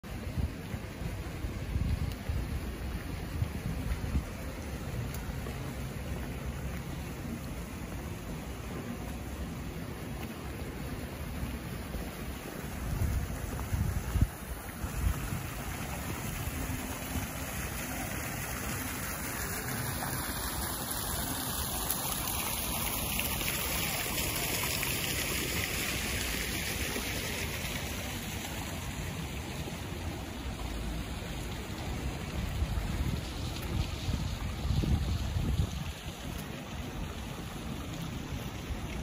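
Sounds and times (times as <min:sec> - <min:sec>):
fountain splashing into basin: 0:00.0 - 0:39.0.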